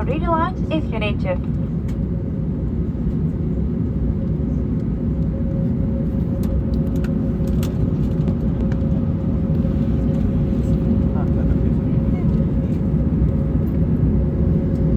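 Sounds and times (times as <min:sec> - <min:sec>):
low aircraft cabin rumble: 0:00.0 - 0:14.9
mid-pitched hum: 0:00.0 - 0:14.9.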